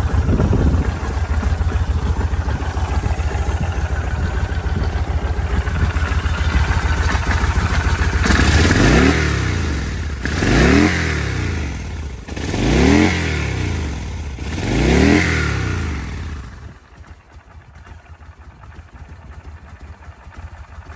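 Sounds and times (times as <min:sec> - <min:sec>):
motorcycle engine idling and revving: 0:00.0 - 0:20.9.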